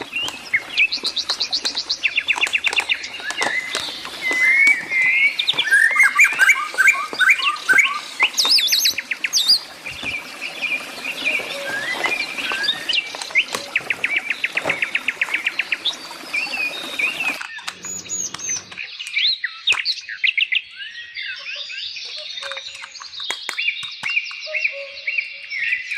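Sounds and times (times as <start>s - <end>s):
bird trill: 0.0s - 25.9s
songbirds chirping: 0.0s - 25.9s.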